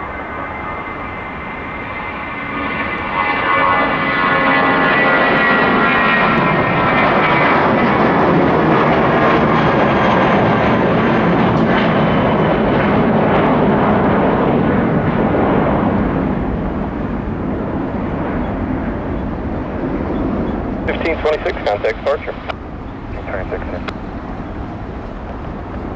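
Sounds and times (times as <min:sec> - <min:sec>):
jet engine whine: 0:00.0 - 0:25.9
jet engines roaring: 0:00.0 - 0:25.9.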